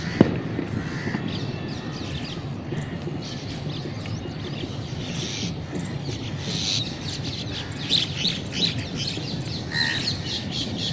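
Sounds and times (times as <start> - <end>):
birds squawking and chirping: 0.0 - 10.9.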